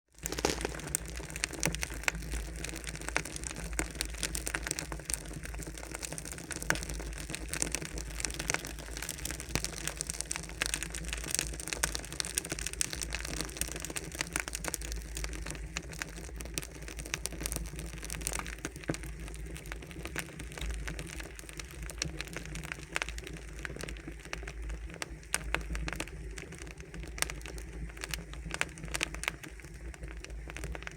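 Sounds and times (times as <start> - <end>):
campfire crackling and popping: 0.1 - 30.9.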